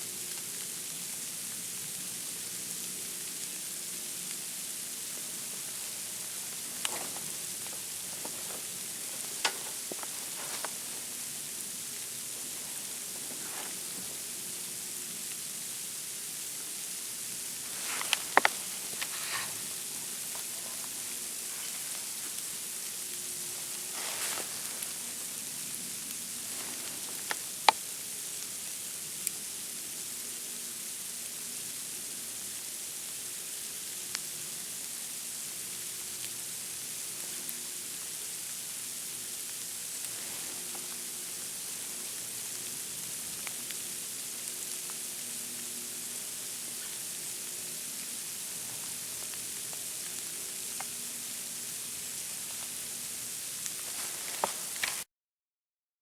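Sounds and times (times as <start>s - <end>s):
steady high hiss: 0.0s - 55.1s.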